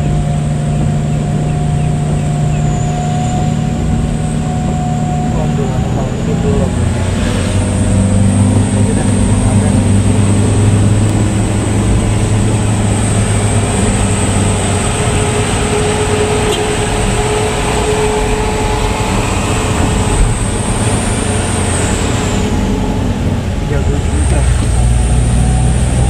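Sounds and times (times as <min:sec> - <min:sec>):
high-pitched whine: 0:00.0 - 0:26.0
vehicle engine drone: 0:00.0 - 0:26.0.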